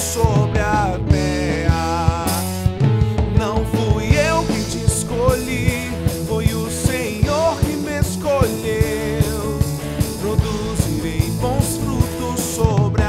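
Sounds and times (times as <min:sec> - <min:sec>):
lead vocal singing: 0:00.0 - 0:13.0
rock band playing live: 0:00.0 - 0:13.0.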